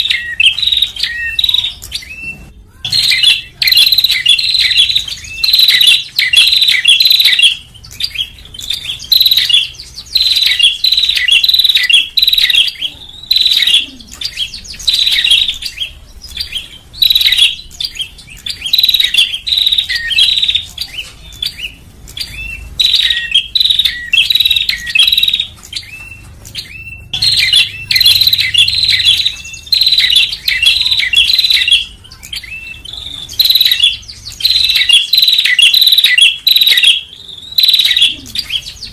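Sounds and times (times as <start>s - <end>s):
bird chirping rapidly: 0.0s - 38.9s.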